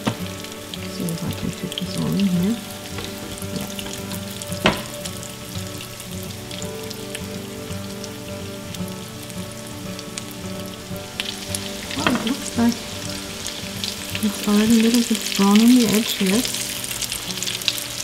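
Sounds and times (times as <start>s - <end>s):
meat frying in hot oil: 0.0s - 18.0s.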